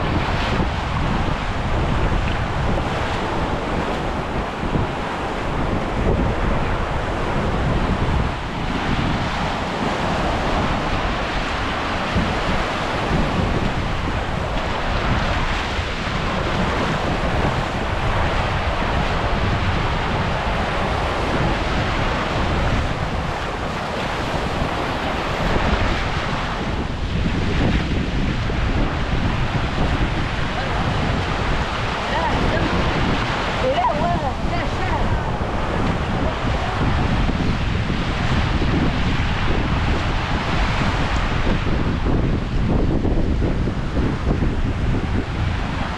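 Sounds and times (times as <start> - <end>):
surf washing on sandy beach: 0.0 - 45.9
wind buffeting microphone: 0.0 - 45.9.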